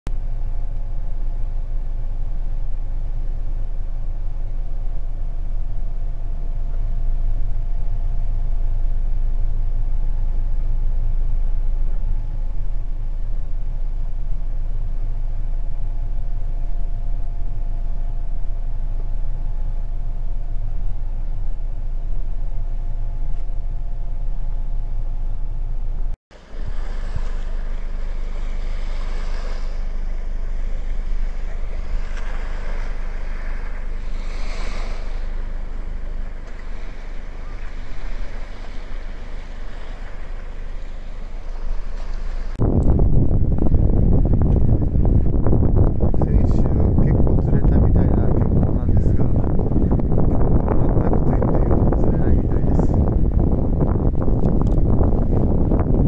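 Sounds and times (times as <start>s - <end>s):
car engine idling: 0.1s - 45.2s.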